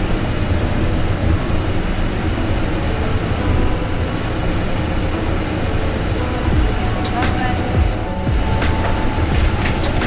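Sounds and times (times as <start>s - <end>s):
bus engine rumble: 0.0s - 10.0s
road noise: 0.0s - 10.0s.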